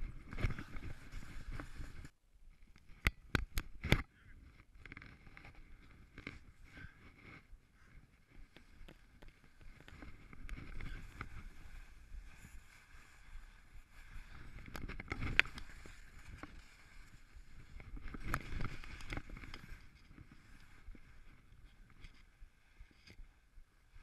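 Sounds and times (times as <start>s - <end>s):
skis scraping over snow: 0.0s - 2.1s, 6.3s - 23.9s.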